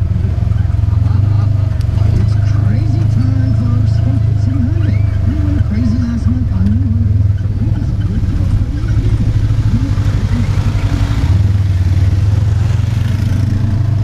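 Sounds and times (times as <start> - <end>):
utility vehicle engine droning: 0.0 - 14.0.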